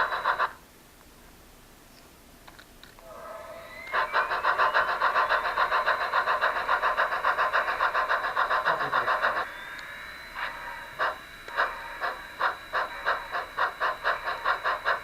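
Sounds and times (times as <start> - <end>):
model train locomotive pulsing: 0.0 - 0.6, 2.9 - 15.0.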